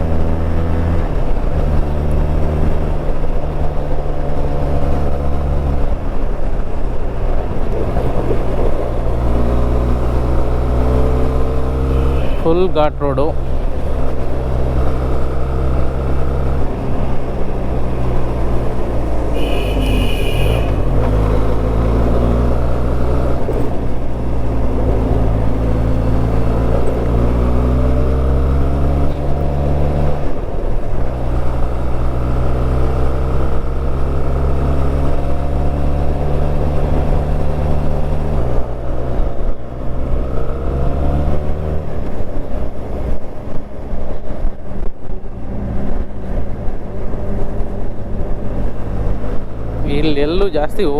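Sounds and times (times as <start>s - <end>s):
motorcycle engine revving: 7.2s - 50.9s.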